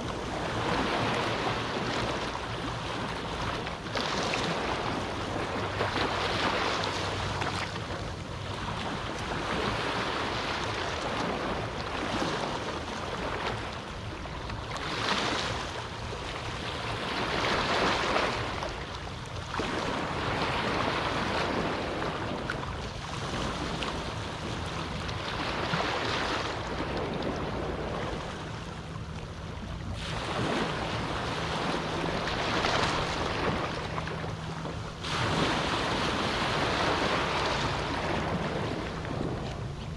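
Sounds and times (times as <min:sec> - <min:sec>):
small waves washing up beach: 0:00.0 - 0:39.9.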